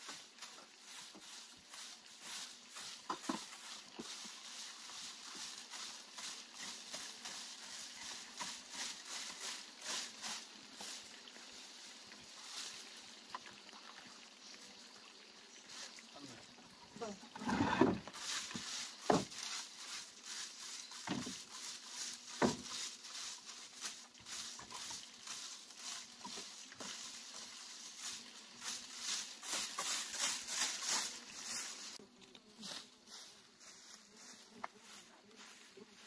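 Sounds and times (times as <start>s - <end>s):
broom sweeping leaves and dirt: 0.0s - 36.0s.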